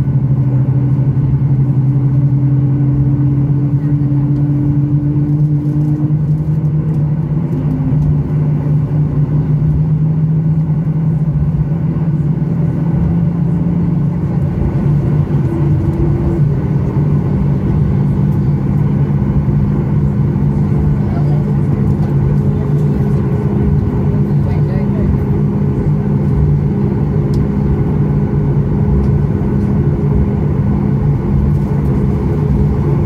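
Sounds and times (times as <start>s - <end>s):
airplane cabin rumble: 0.0s - 33.0s
jet engines humming: 0.0s - 33.0s.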